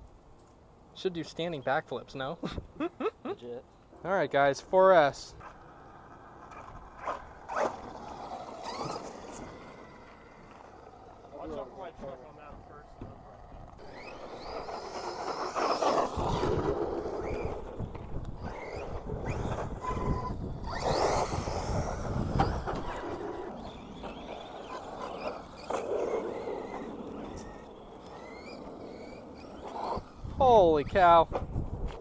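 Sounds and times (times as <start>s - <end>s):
tyres churning through dirt: 4.2s - 32.0s
electric motor whining: 5.4s - 32.0s.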